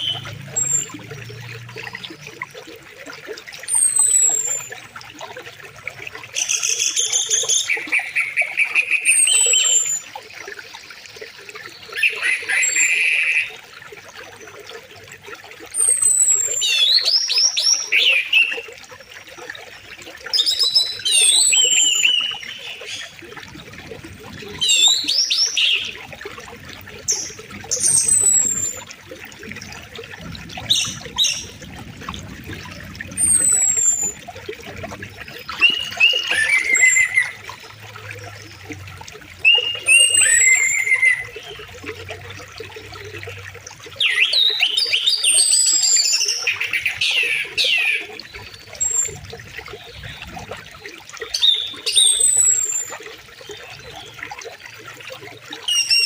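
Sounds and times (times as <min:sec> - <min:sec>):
songbirds singing and trilling: 0:00.0 - 0:14.9, 0:15.5 - 0:56.0.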